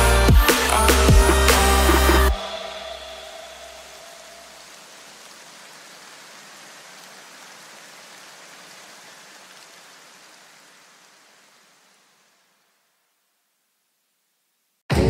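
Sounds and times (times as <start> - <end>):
faint rushing hiss: 0.8 - 14.8.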